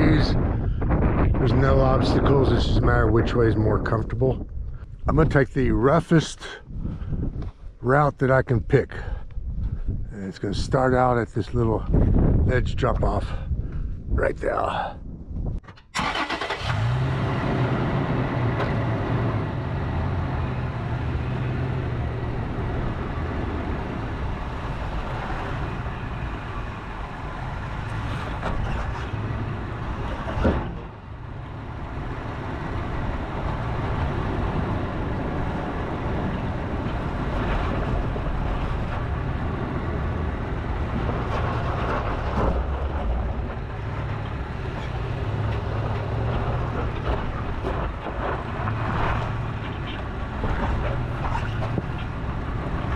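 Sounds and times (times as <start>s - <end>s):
truck engine low hum: 0.0s - 52.9s.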